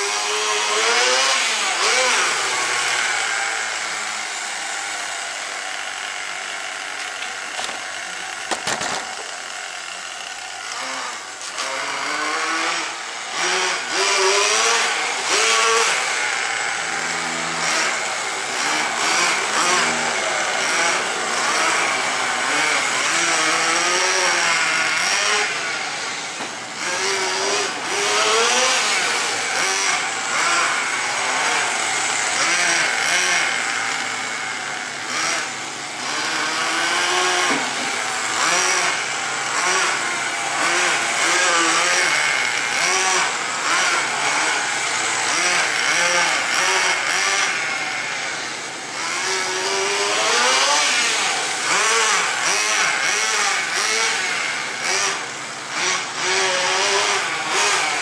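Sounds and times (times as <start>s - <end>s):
model car engine revving: 0.0s - 58.0s.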